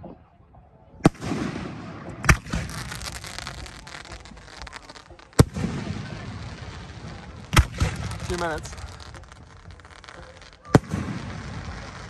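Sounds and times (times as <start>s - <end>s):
fireworks booming: 1.0s - 12.0s
fireworks crackle: 1.0s - 12.0s.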